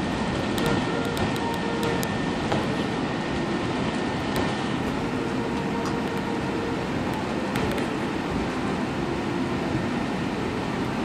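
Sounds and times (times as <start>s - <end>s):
airplane engines and wheels rumbling: 0.0s - 11.0s.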